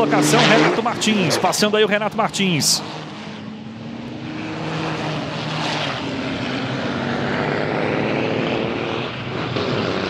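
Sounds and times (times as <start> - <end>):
diesel truck engines racing: 0.0 - 10.0.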